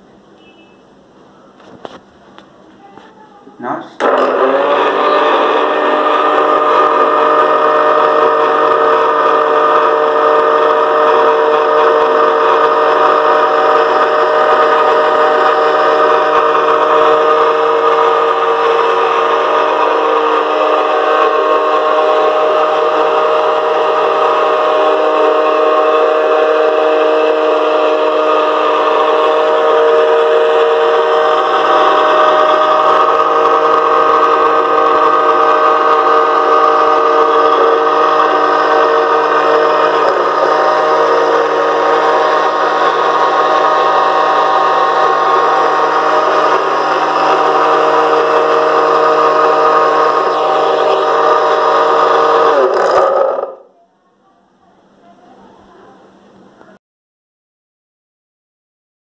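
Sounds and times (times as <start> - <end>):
generator whining: 0.0 - 53.8.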